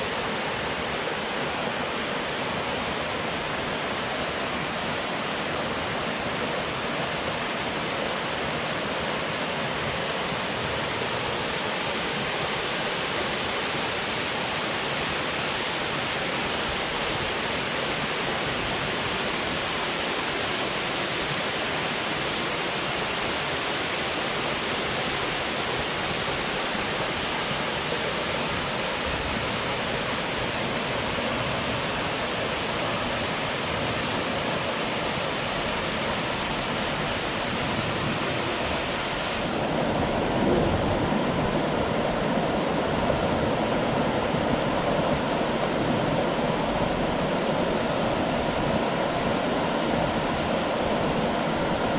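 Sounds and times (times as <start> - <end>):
water rushing from dam: 0.0 - 51.9.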